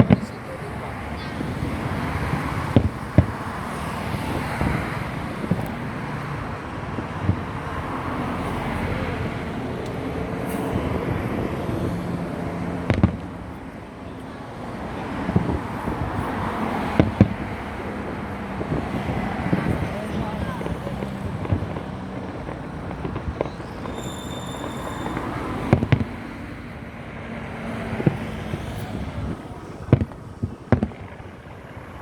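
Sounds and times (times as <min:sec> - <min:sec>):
fireworks bangs: 0:00.0 - 0:32.0
outdoor background noise: 0:00.0 - 0:32.0.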